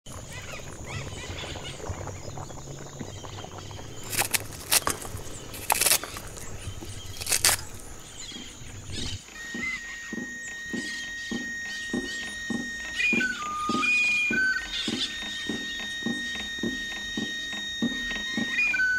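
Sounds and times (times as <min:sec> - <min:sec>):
birds chirping: 0:00.1 - 0:18.9
high insect whine: 0:00.1 - 0:18.9.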